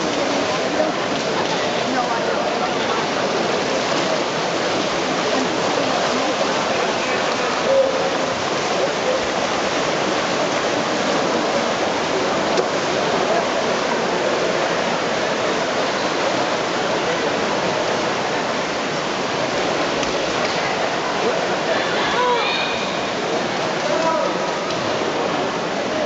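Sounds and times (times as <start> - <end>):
crowd noise: 0.0 - 26.0
swimmers splashing: 0.0 - 26.0.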